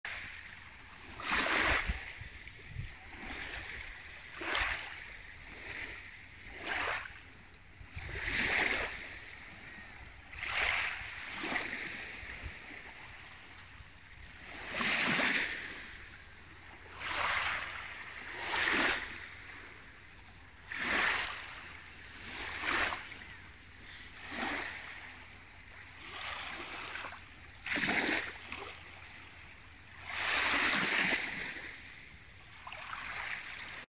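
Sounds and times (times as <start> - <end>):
small waves washing on shore: 0.1 - 33.9.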